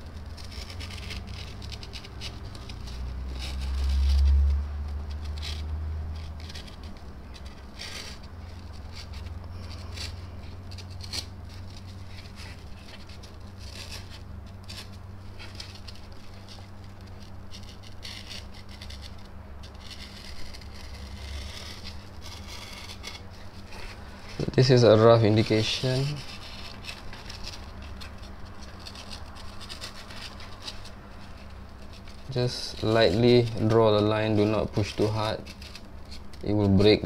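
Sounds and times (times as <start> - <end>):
low steady hum: 0.0 - 37.0
pencil scratching on foam: 0.0 - 37.0.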